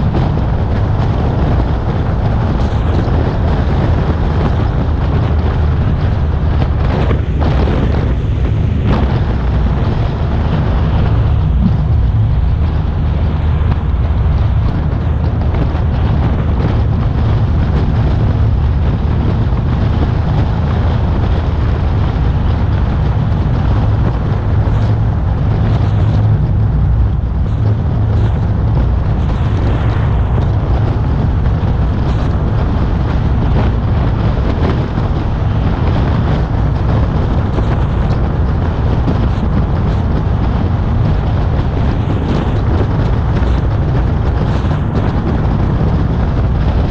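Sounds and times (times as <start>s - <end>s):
road and wind rumble: 0.0s - 46.9s.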